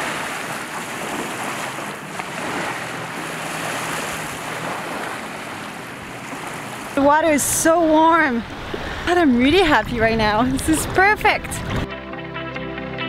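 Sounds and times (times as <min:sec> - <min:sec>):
small waves washing on shore: 0:00.0 - 0:11.9
wind on microphone: 0:00.0 - 0:11.9.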